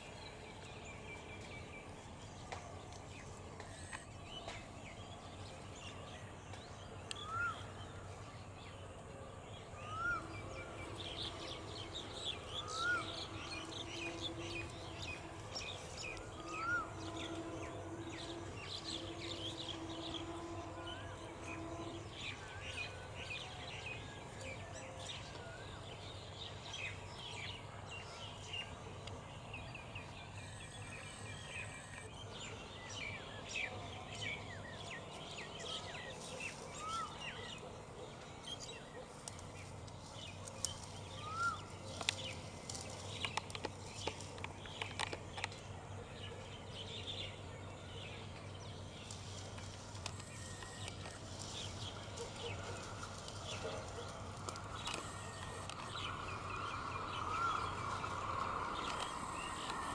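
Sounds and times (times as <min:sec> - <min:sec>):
birds chirping: 0:00.0 - 0:59.9
faint steady hum: 0:00.0 - 0:59.9.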